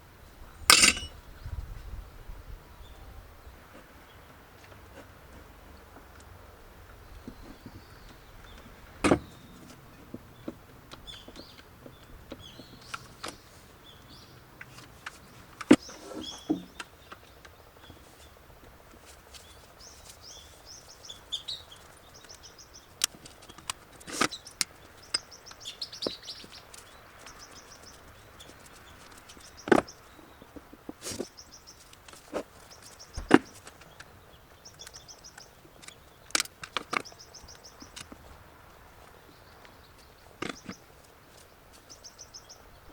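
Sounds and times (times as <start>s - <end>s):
small birds chirping: 2.7s - 42.9s.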